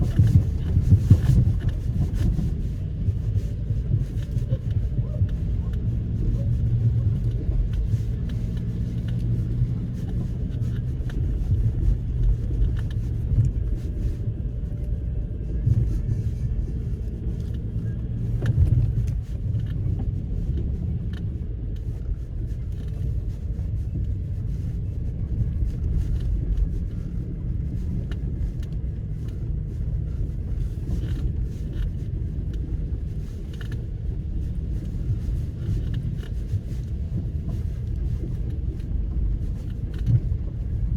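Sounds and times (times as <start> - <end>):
car engine low rumble: 0.0 - 40.9.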